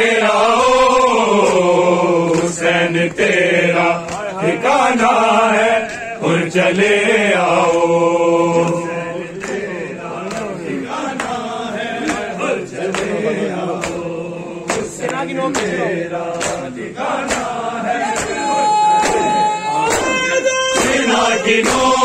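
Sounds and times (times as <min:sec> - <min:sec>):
crowd of men chanting: 0:00.0 - 0:22.0
hands slapping chests: 0:00.9 - 0:05.2, 0:07.6 - 0:22.0.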